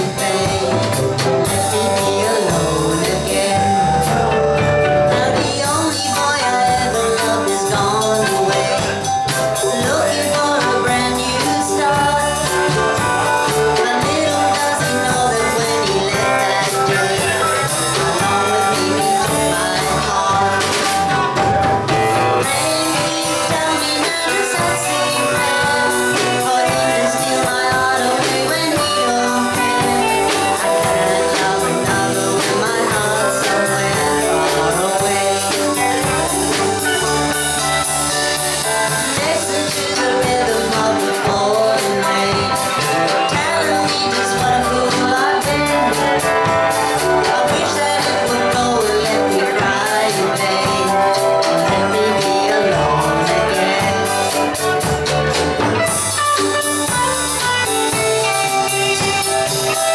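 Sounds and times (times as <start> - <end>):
drum kit: 0.0 - 59.9
electric guitar: 0.0 - 59.9
person singing: 0.0 - 59.9.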